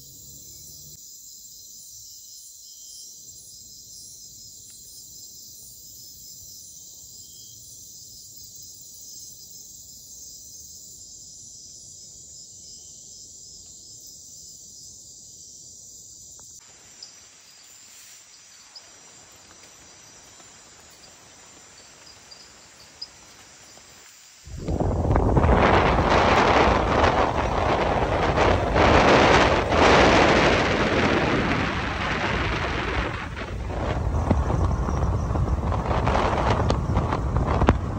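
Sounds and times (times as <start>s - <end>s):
insects trilling: 0.0s - 37.9s.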